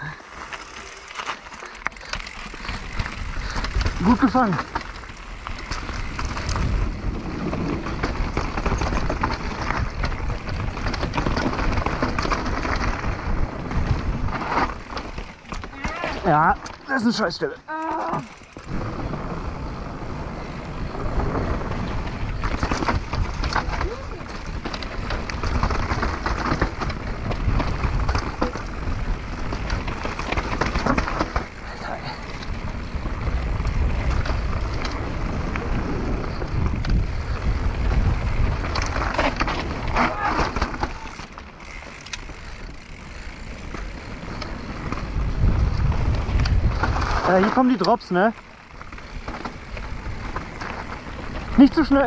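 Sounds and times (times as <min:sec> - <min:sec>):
bike chain and frame rattle: 0:00.0 - 0:52.0
tyres over dirt and stones: 0:00.0 - 0:52.0
wind rumbling on microphone: 0:02.0 - 0:16.7, 0:17.7 - 0:52.0.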